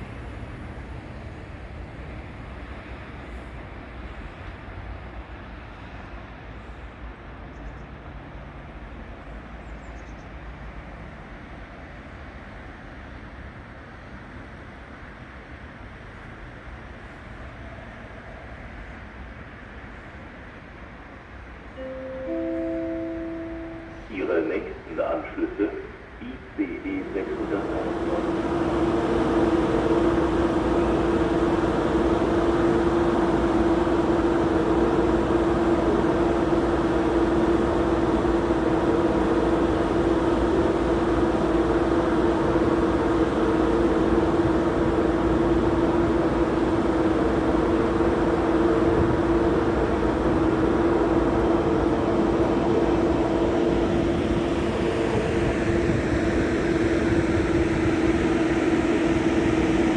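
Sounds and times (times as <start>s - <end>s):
train electric machinery humming: 0.0s - 59.9s.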